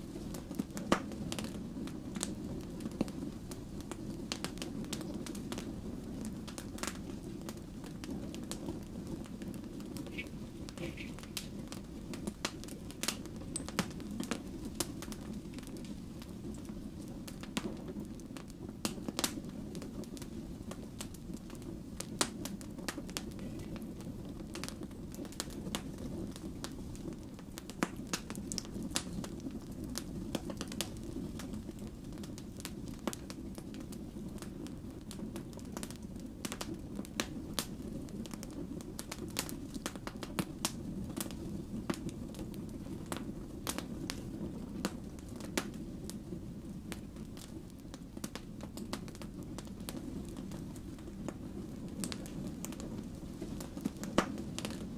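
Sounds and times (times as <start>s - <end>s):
logs crackling and popping: 0.0s - 54.9s
rush of flame: 0.0s - 54.9s.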